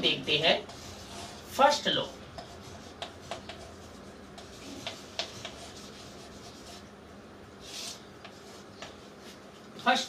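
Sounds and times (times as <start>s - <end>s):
chalk writing on blackboard: 0.3s - 7.0s, 7.6s - 9.6s.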